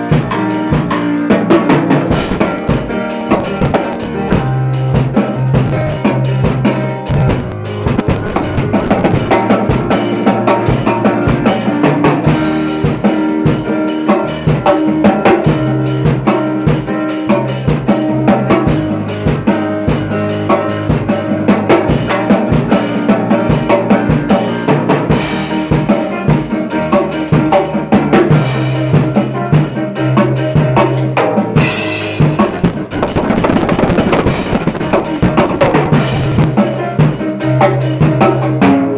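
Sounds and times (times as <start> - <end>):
drum kit hits: 0.0 - 38.9
loud band music: 0.0 - 38.9.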